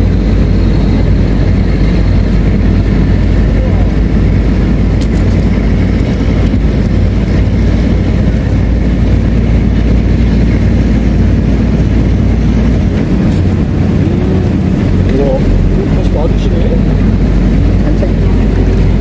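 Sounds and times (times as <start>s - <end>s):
large engine idling: 0.0s - 19.0s.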